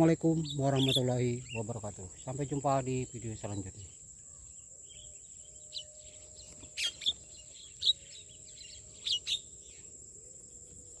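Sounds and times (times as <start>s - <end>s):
birds chirping: 0.0s - 11.0s
high-pitched insect drone: 0.0s - 11.0s.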